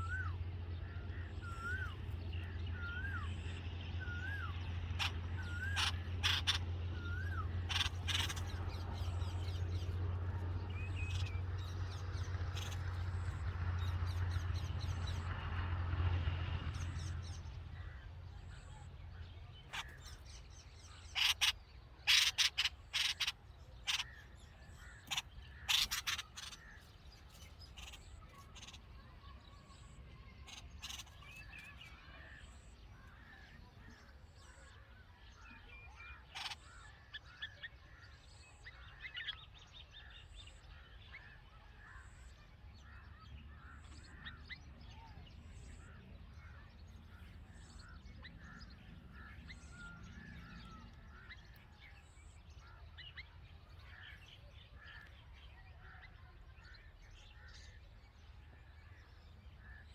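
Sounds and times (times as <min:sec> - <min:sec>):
bird chirping: 0:00.0 - 0:15.3, 0:19.7 - 0:59.9.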